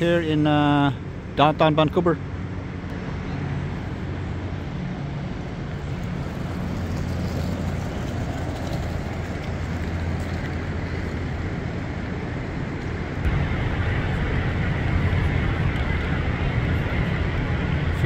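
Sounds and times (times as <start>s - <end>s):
outdoor noise wash: 0.0s - 18.0s
ship machinery humming: 0.0s - 18.0s.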